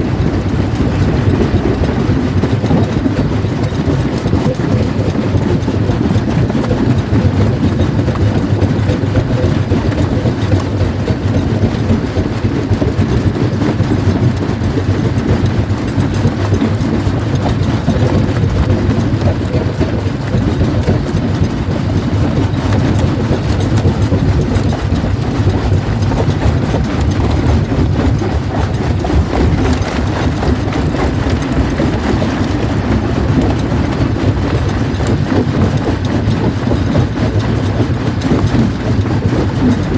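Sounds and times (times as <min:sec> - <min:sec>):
jaw crusher running: 0:00.0 - 0:39.9.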